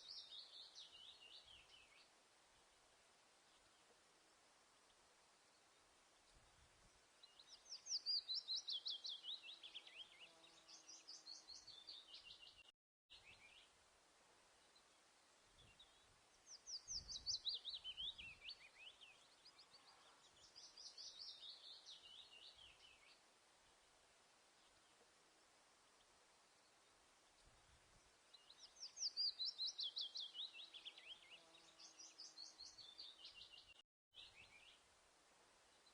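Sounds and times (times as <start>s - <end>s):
bird chirping song: 0.0s - 13.8s, 14.5s - 23.8s, 24.4s - 34.9s, 35.6s - 35.9s
faint background hiss: 0.0s - 35.9s.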